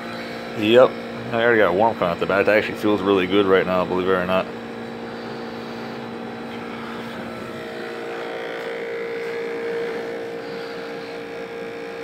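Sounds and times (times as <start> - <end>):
air conditioner compressor hum: 0.0 - 12.0
fan air rushing: 0.0 - 12.0.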